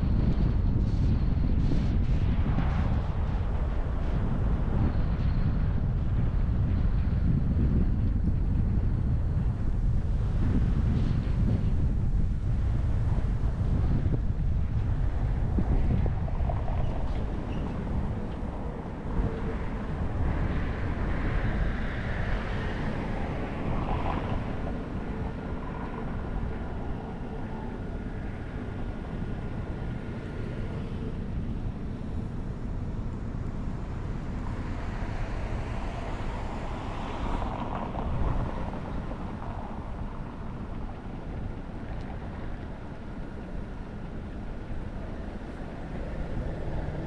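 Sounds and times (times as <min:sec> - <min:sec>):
car driving low rumble: 0:00.0 - 0:47.0
tyre and traffic noise: 0:00.0 - 0:47.0.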